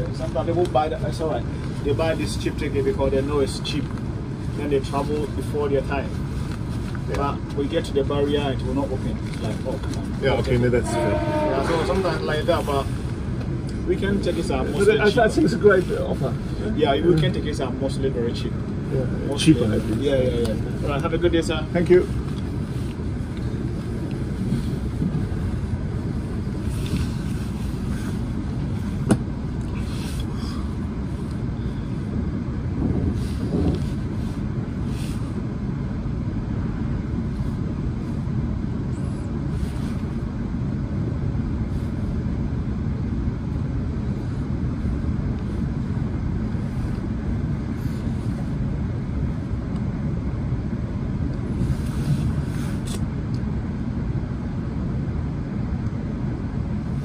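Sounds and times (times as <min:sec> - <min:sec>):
passenger train rumbling: 0:00.0 - 0:57.0.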